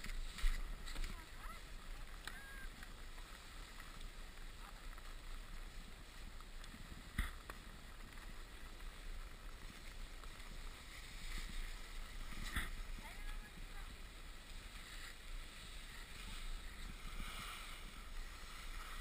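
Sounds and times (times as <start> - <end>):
skis scraping over snow: 0.0 - 19.0.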